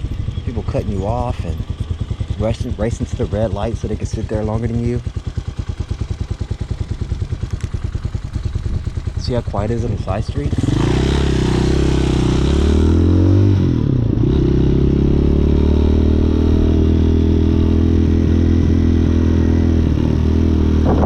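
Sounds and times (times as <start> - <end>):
motorcycle engine pulling: 0.0 - 17.7.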